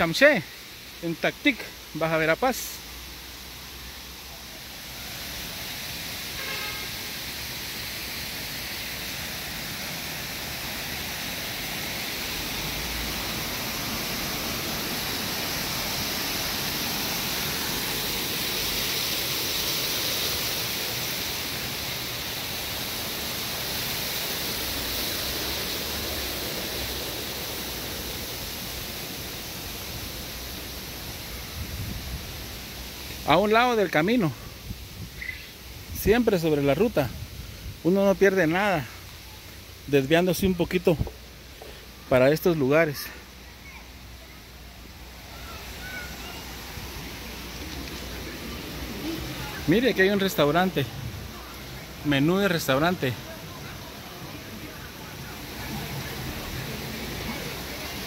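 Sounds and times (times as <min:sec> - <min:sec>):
running spring water: 0:00.0 - 0:58.0.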